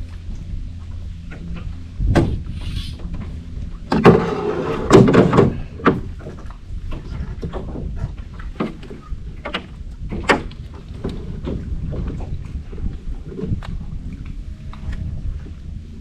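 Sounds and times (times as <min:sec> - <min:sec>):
knocks and thumps in boat: 0:00.0 - 0:16.0
steady low rumble: 0:00.0 - 0:16.0.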